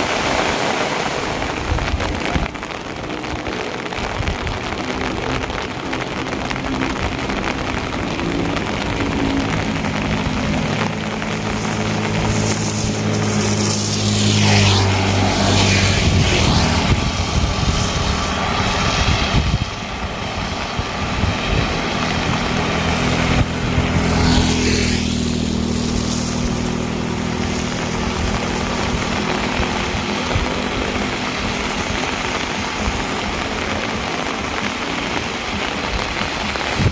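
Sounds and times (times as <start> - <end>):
vehicles passing with swish: 0.0 - 36.9.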